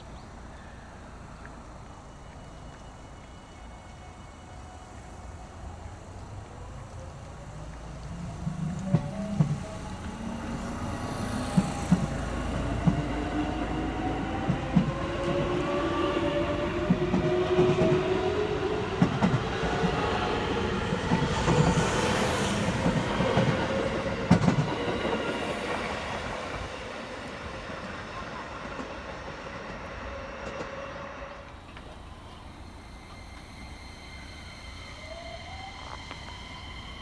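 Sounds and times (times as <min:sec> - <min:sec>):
train rolling rumble: 0:00.0 - 0:37.0
train motor whine: 0:01.7 - 0:27.6, 0:28.7 - 0:37.0.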